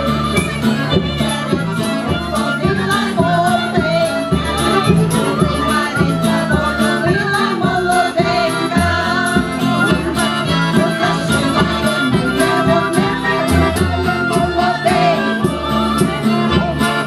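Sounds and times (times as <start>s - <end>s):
backing track with beat and bass: 0.0s - 17.0s
women's vocal group singing: 1.0s - 17.0s.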